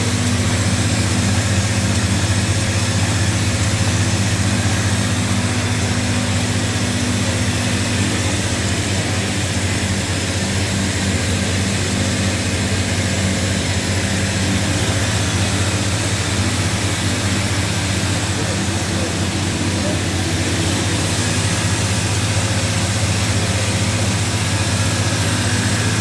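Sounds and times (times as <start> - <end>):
machine hum and whir: 0.0 - 26.0.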